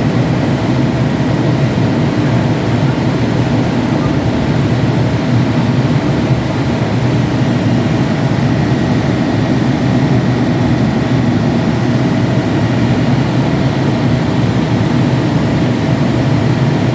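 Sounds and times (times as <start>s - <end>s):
diesel generator running loudly: 0.0s - 16.9s.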